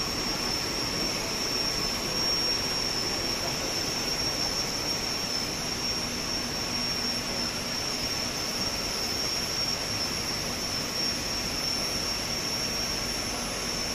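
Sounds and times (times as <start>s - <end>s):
high steady whine: 0.0s - 13.9s
ventilation and cooling fans rushing: 0.0s - 13.9s.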